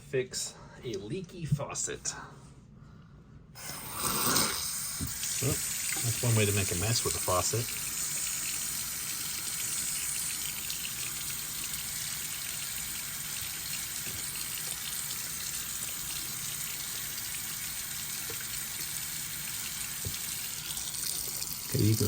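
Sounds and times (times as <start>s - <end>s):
faucet running water: 3.6s - 22.0s.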